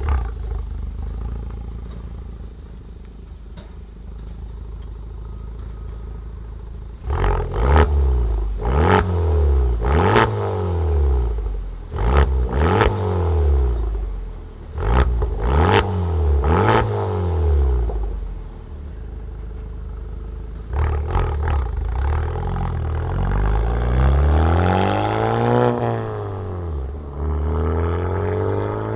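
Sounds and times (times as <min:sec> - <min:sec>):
car engine idling and revving: 0:00.0 - 0:28.9.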